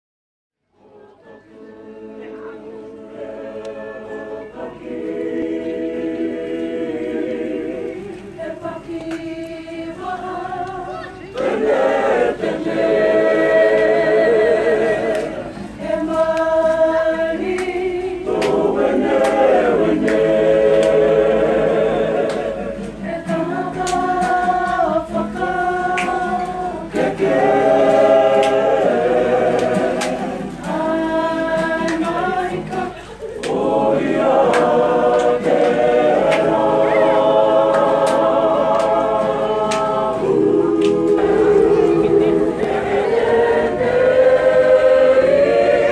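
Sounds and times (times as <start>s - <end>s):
choir singing: 0.7s - 45.9s.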